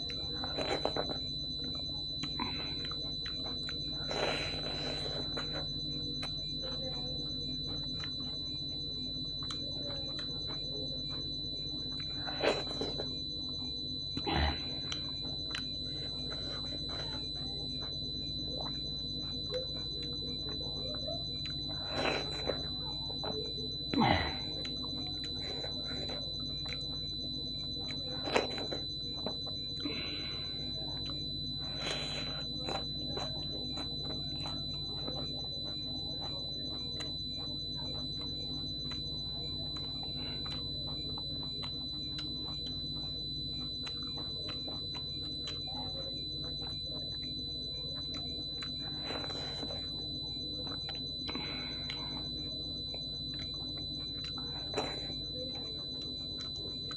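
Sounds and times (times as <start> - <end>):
chewing and mouth noises: 0.0 - 56.9
high-pitched whine: 0.0 - 56.9.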